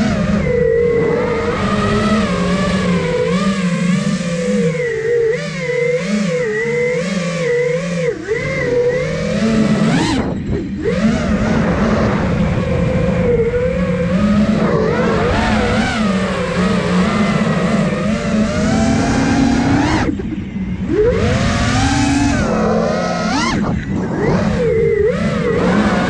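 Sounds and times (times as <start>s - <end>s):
drone motors and propellers whining: 0.0s - 26.0s.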